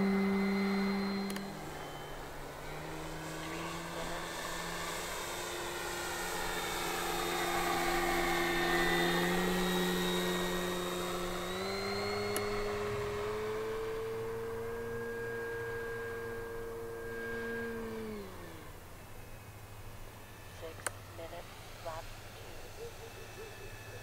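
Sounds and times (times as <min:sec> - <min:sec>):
model plane motor whine: 0:00.0 - 0:24.0.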